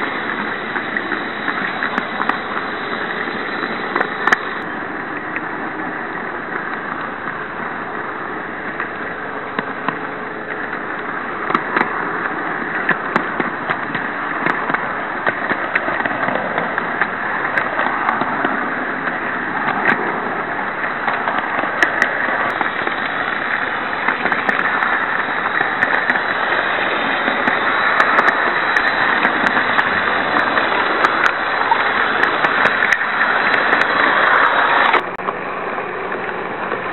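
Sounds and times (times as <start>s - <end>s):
model train wheels rattling on track: 0.0s - 36.9s.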